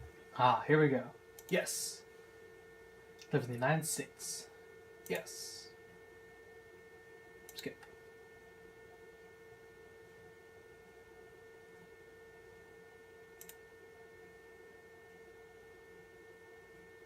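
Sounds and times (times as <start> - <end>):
faint electrical whine: 0.0 - 17.0.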